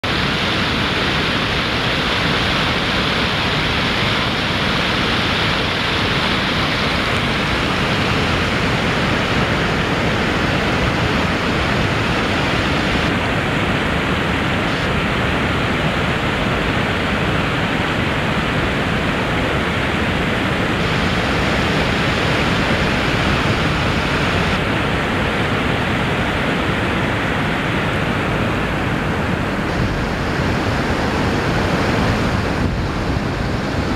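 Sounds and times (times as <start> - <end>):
fast river water rushing: 0.0 - 33.9.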